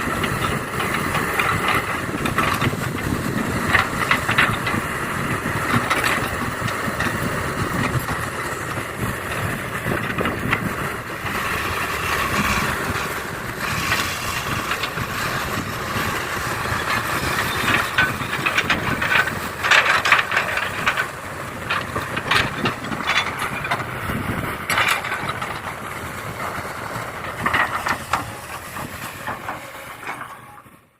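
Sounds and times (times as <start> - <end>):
scattered clicks and knocks: 0.0 - 30.7.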